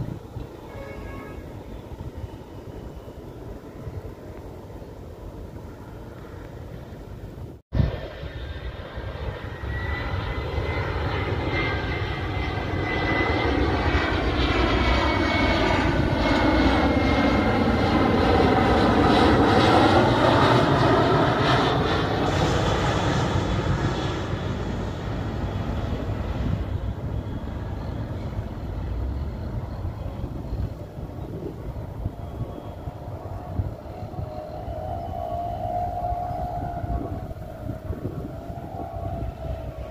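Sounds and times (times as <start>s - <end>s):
jet airliner passing overhead: 0.0s - 39.9s.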